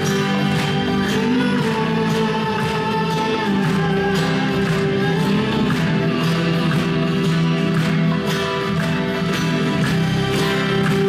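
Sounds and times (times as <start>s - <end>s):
guitar strumming: 0.0s - 11.0s.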